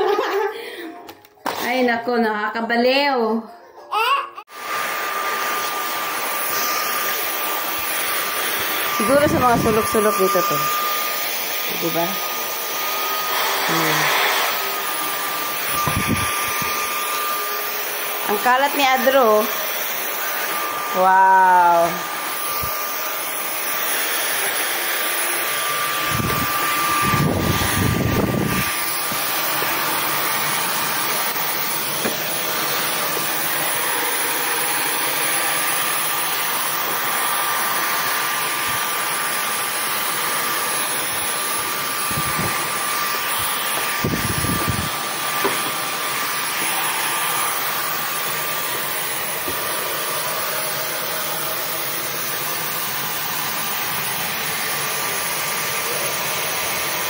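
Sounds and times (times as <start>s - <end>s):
vacuum cleaner whine: 0.0s - 3.4s, 4.5s - 57.0s.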